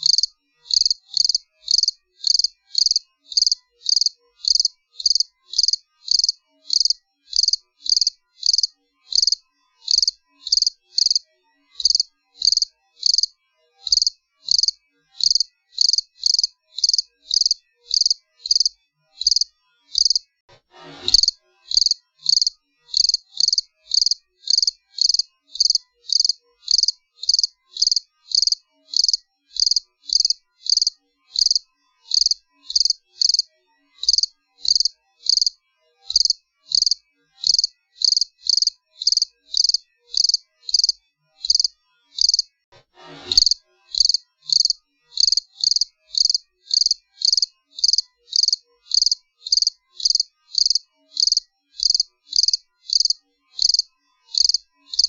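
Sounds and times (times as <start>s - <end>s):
cricket chirping: 0.0s - 11.2s, 11.8s - 13.3s, 13.9s - 20.2s, 21.2s - 42.5s, 43.4s - 55.0s.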